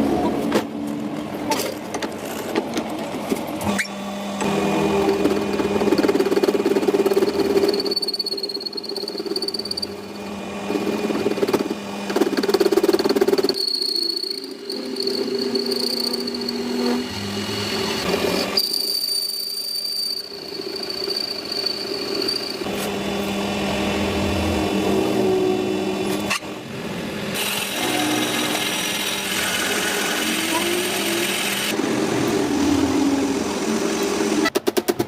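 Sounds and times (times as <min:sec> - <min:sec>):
power tools running: 0:03.6 - 0:18.9, 0:20.3 - 0:34.4.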